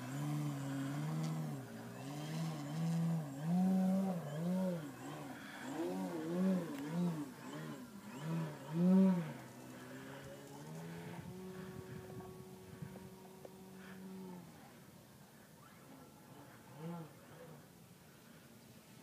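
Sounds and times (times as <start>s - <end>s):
electric rc plane motor droning: 0.0s - 19.0s.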